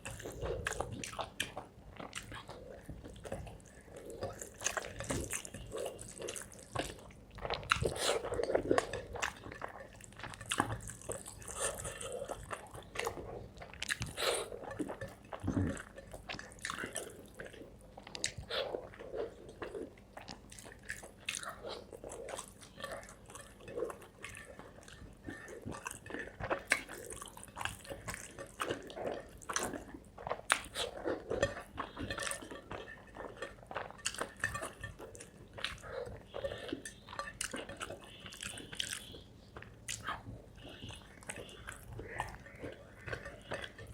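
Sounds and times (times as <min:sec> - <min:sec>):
wet chewing and smacking: 0:00.0 - 0:43.9.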